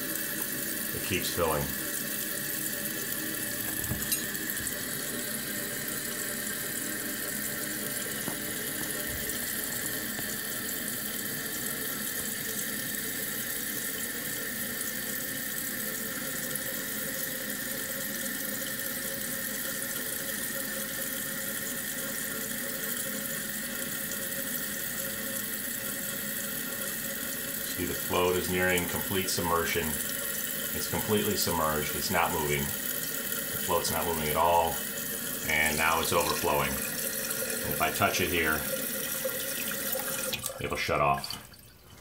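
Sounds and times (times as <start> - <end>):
water hissing into toilet tank: 0.0 - 42.0.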